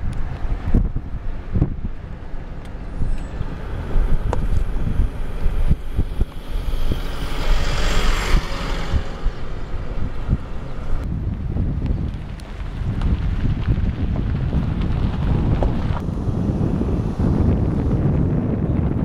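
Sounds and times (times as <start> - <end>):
road rumble: 0.0 - 19.0
wind buffeting on microphone: 0.0 - 19.0.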